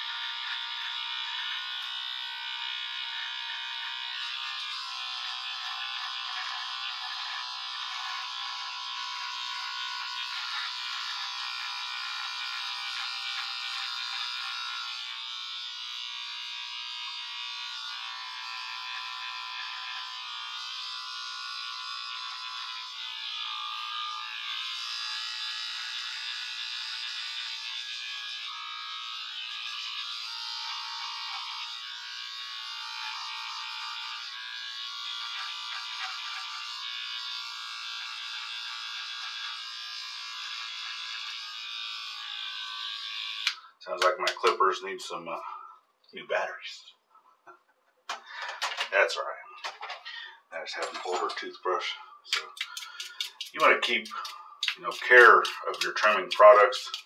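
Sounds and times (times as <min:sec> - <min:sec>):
electric beard trimmer buzzing: 0:00.0 - 0:44.8, 0:48.1 - 0:57.0.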